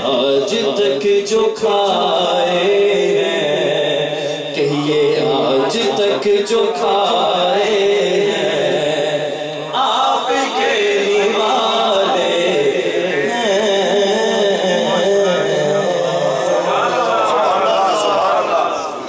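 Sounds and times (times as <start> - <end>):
men singing unaccompanied: 0.0 - 17.7.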